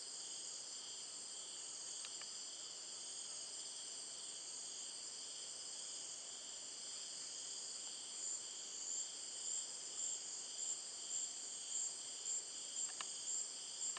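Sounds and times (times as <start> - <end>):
high pulsing insect call: 0.0 - 13.9.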